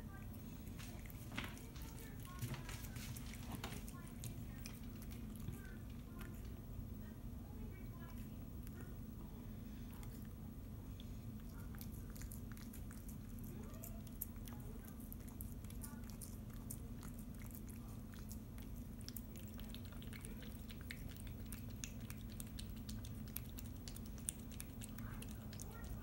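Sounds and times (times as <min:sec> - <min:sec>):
cat chewing wet food: 0:00.0 - 0:26.0.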